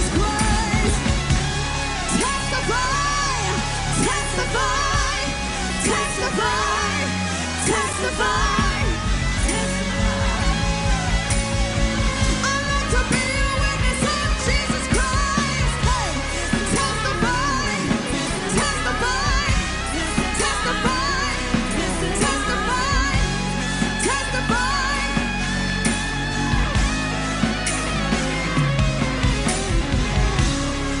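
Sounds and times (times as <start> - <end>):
person singing: 0.0 - 25.6
worship band music: 0.0 - 31.0.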